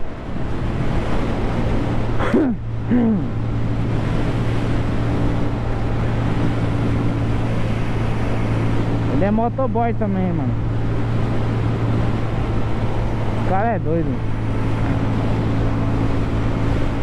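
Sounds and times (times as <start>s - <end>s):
motorcycle engine humming: 0.0s - 17.0s
wind rushing over microphone: 0.0s - 17.0s.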